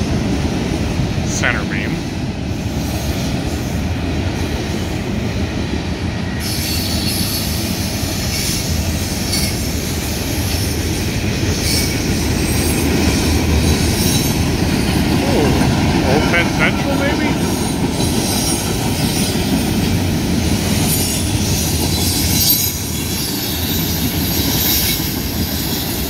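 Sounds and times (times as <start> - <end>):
freight train cars rumbling: 0.0 - 26.0
wheels squealing on rails: 2.6 - 26.0.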